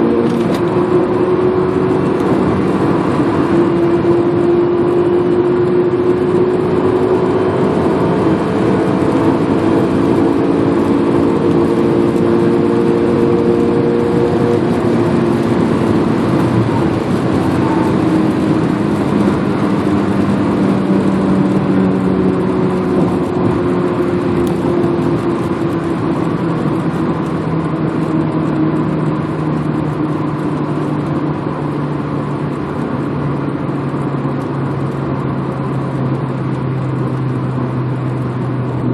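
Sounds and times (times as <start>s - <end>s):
car engine slowing down: 0.0s - 38.9s
road and wind noise: 0.0s - 38.9s.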